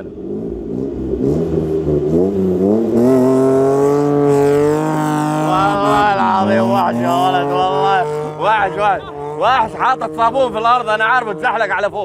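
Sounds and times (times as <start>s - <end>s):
engine revving hard: 0.2s - 11.9s.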